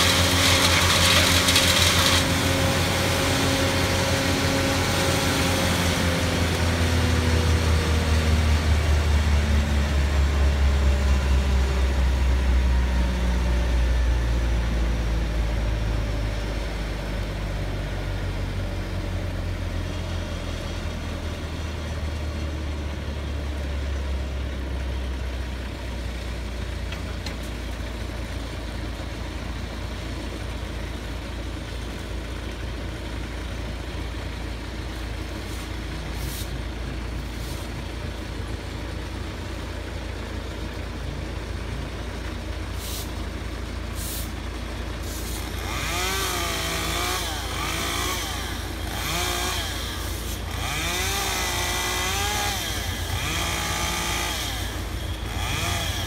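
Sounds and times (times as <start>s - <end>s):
large engine idling: 1.9s - 56.0s.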